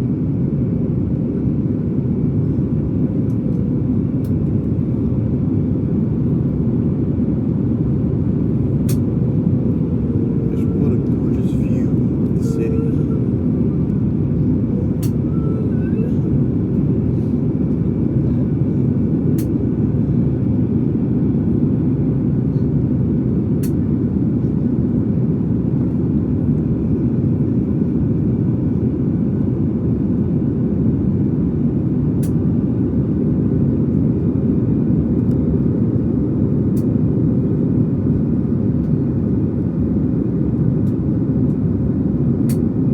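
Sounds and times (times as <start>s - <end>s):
airplane cabin engine drone: 0.0s - 42.9s.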